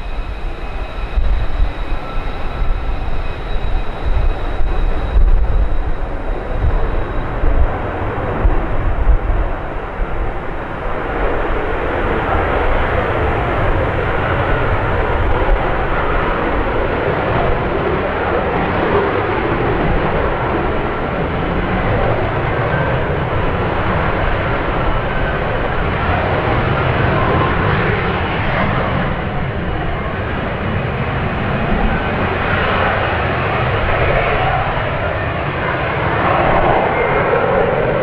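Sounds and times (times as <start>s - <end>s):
jet engine roaring: 0.0s - 38.0s.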